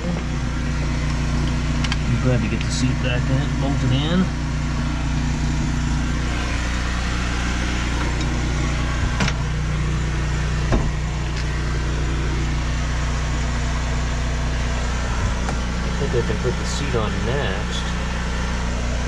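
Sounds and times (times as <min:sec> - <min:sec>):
engine droning: 0:00.0 - 0:19.0.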